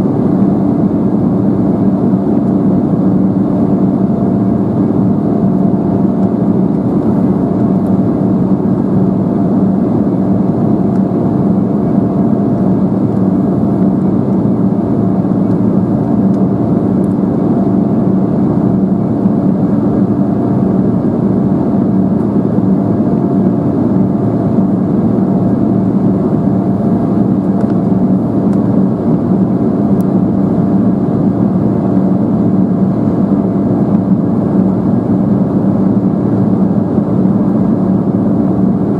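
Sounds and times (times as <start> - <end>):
jet engine drone: 0.0 - 38.9
steady hum tones: 0.0 - 38.9.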